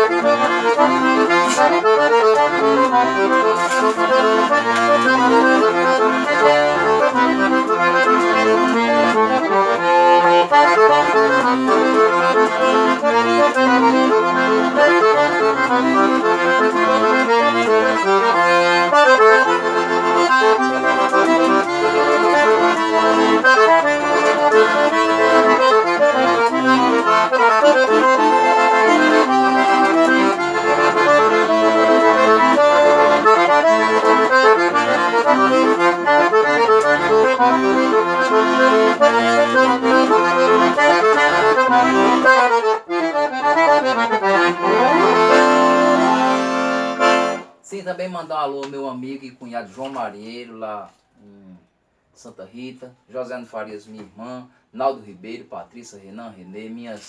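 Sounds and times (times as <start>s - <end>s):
accordion playing lively tune: 0.0s - 47.6s.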